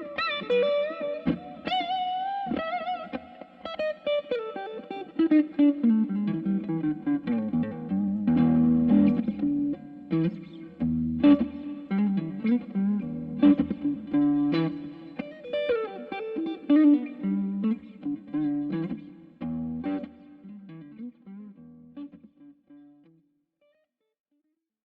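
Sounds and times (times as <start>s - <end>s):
electric guitar playing: 0.0s - 23.2s.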